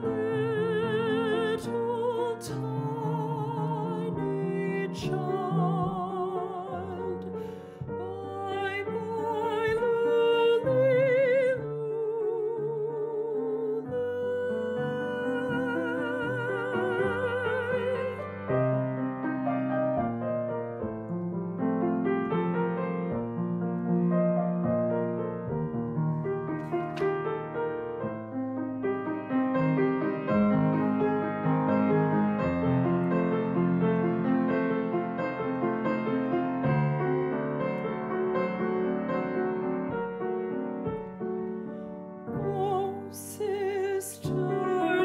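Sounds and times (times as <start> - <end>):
piano playing: 0.0 - 45.0.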